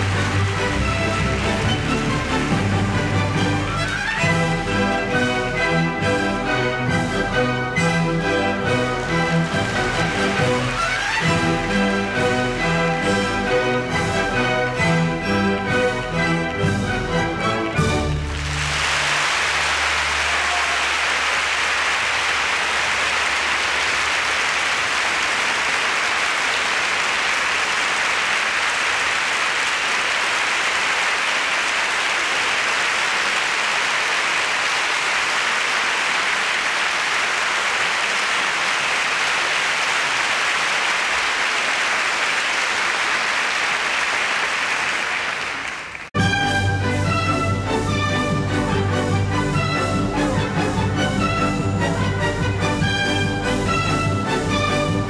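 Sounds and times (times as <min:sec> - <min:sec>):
audience applauding: 0:00.0 - 0:15.6, 0:16.2 - 0:46.2.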